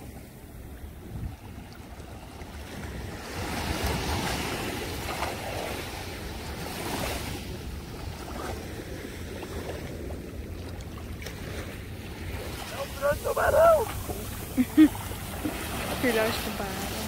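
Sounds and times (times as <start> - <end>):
surf washing in: 0.0 - 17.0
wind buffeting microphone: 0.0 - 17.0.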